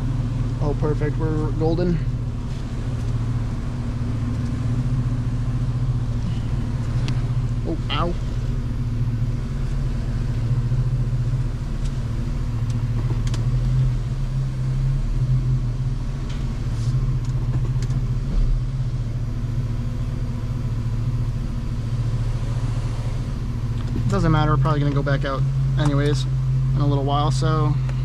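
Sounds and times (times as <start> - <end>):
car engine rumbling at low revs: 0.0 - 28.0.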